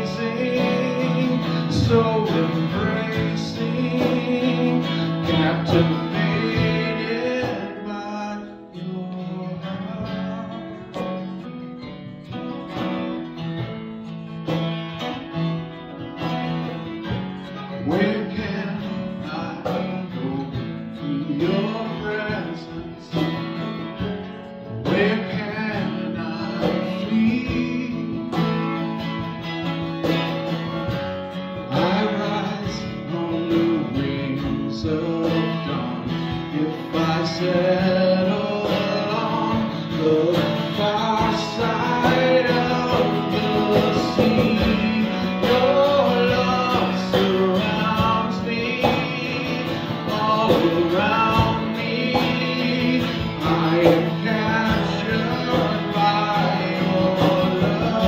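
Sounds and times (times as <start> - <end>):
man singing: 0.0 - 13.7, 14.4 - 58.0
strummed acoustic guitar: 0.0 - 58.0.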